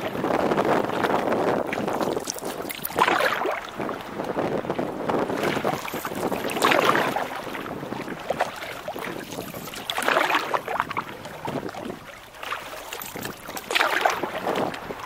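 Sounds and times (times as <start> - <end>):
water splashing around canoe: 0.0 - 15.0.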